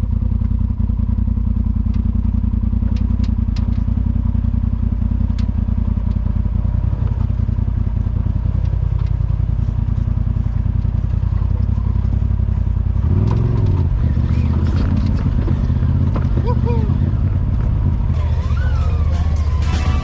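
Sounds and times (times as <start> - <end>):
off-road vehicle engine running: 0.0 - 20.0.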